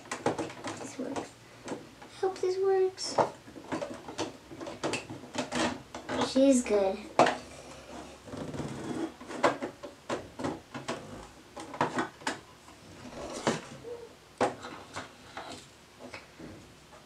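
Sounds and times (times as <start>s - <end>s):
plastic toys clattering on wood: 0.0s - 2.2s, 3.0s - 13.8s, 14.4s - 16.6s.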